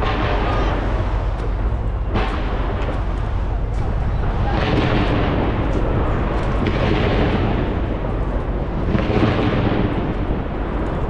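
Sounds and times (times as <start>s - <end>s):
deep rumble: 0.0s - 11.0s
fireworks bursting: 0.0s - 11.0s.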